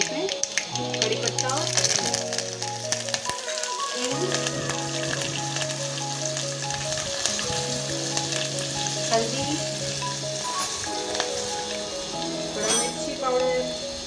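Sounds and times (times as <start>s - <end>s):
background music: 0.0s - 14.0s
spices sizzling in hot oil: 0.0s - 14.0s.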